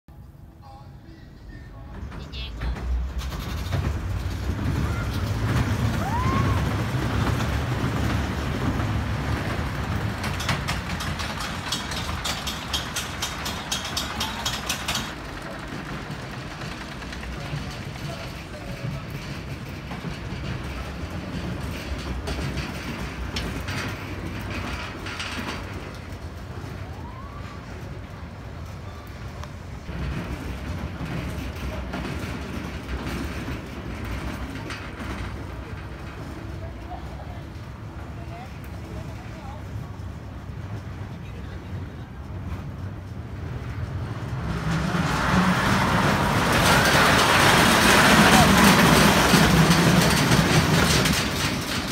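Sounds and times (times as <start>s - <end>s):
roller coaster cars rumbling: 0.1s - 51.9s.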